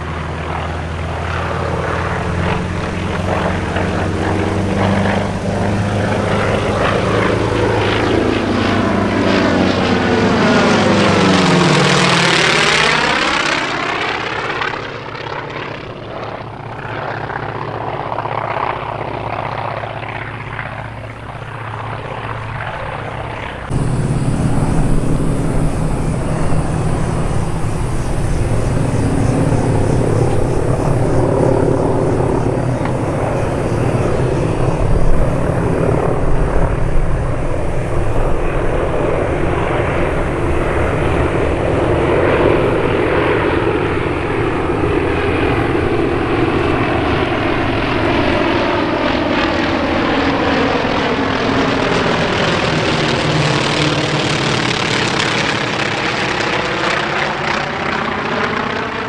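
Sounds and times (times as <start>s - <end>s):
propeller aircraft droning: 0.0s - 59.0s.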